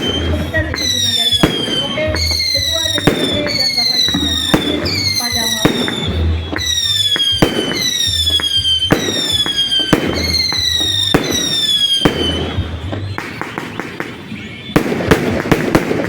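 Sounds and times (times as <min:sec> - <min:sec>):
falling firework whistle: 0:00.0 - 0:16.0
fireworks bangs and crackles: 0:00.0 - 0:16.0.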